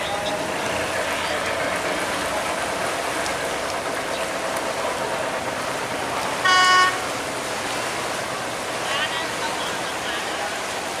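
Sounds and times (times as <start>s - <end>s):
turbulent water rushing: 0.0s - 11.0s.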